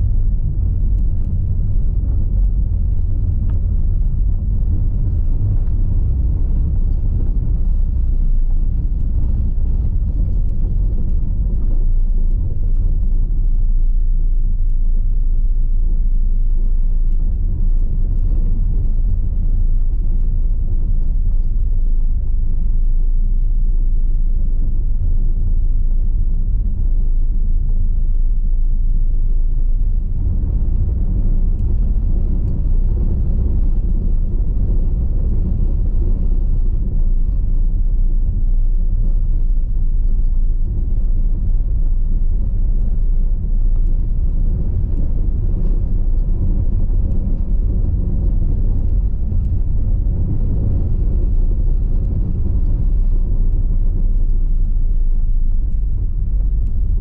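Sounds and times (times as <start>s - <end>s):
car tyres rumbling on cobblestones: 0.0s - 57.0s.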